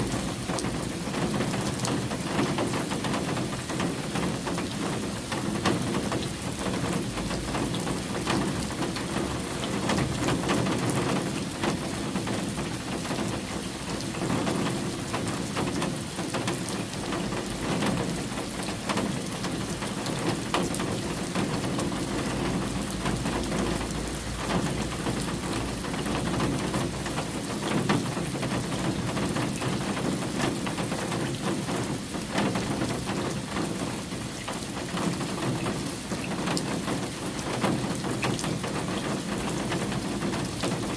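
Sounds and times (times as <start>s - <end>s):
raindrops ticking: 0.0s - 40.9s
steady rain falling: 0.0s - 40.9s.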